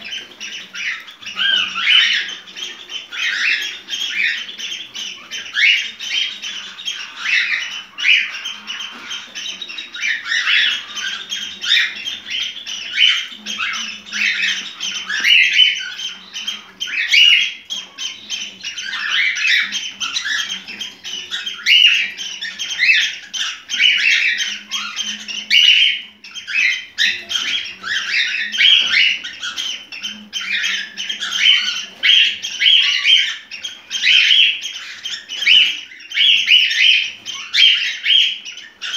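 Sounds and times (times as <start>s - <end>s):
cockatiel chirping and whistling: 0.0s - 38.9s.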